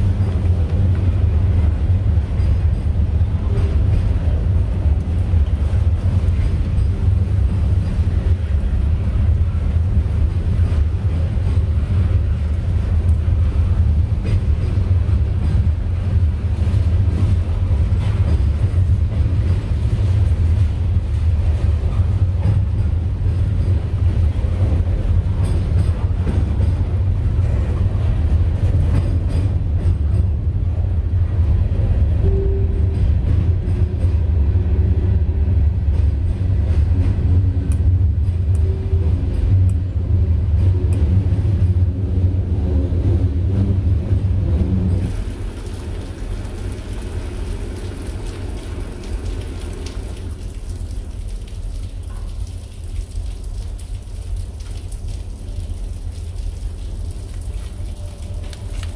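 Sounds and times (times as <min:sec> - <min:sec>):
rain: 0:00.0 - 0:58.9
train passing rumble: 0:00.0 - 0:58.9.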